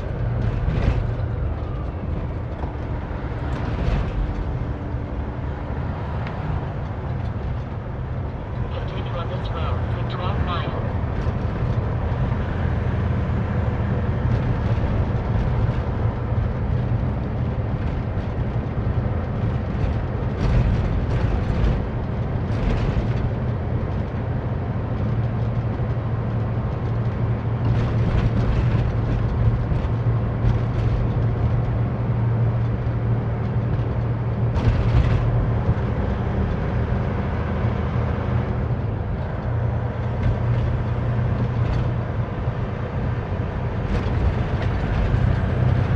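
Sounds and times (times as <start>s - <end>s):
road noise: 0.0s - 45.9s
truck diesel engine cruising: 0.0s - 45.9s.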